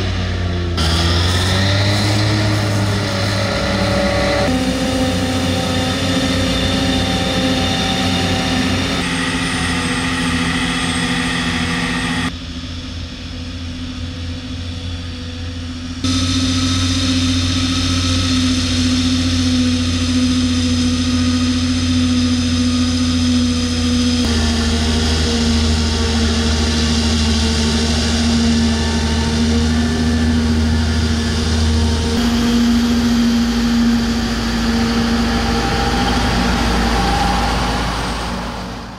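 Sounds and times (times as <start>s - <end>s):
forage harvester engine droning: 0.0s - 38.9s.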